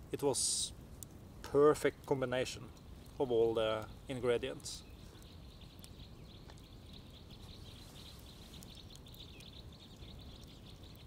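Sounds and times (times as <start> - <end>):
small birds twittering faintly: 0.0 - 11.0.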